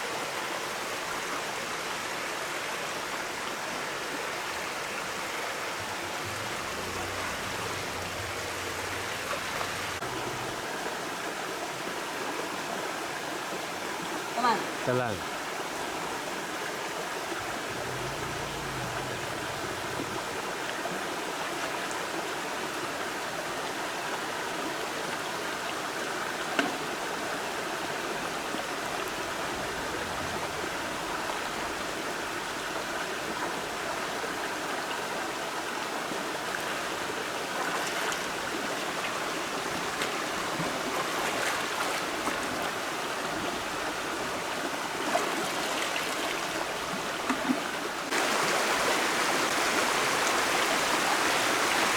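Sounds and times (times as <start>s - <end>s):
stream water flowing: 0.0s - 51.9s.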